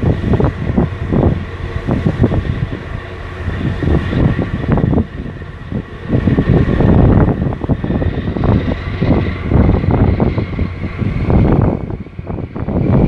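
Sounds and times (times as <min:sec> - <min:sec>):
low ship engine hum: 0:00.0 - 0:13.0
wind buffeting microphone: 0:00.0 - 0:13.0.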